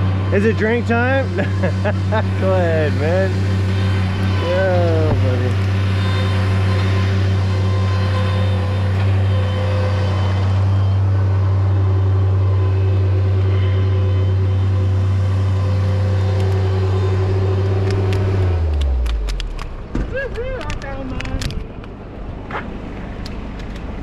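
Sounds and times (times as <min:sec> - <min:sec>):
heavy equipment engine idling: 0:00.0 - 0:21.3.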